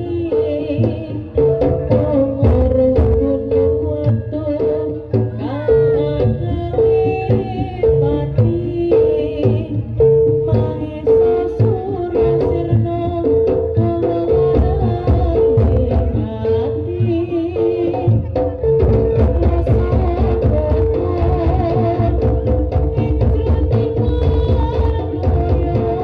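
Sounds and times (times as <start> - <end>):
drums: 0.0 - 26.0
pitched percussion figure: 0.0 - 26.0.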